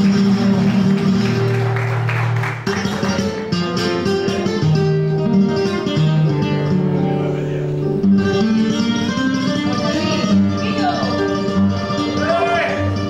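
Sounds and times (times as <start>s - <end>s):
flamenco guitar solo: 0.0s - 13.0s.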